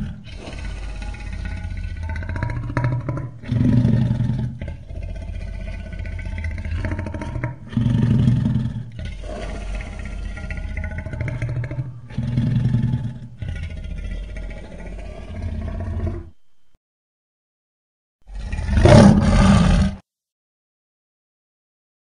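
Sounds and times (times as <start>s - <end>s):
low dinosaur growl: 0.0s - 16.4s, 18.3s - 20.0s.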